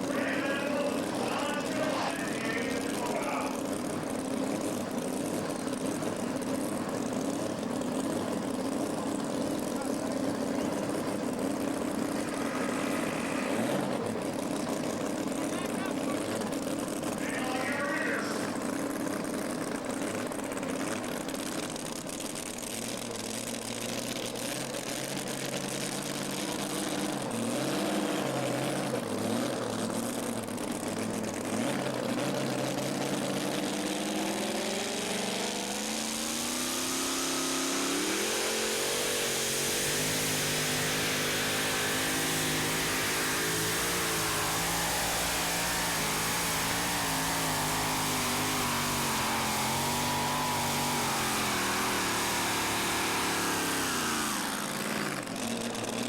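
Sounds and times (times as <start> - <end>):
racing engine revving under load: 0.0 - 21.7, 24.0 - 56.0.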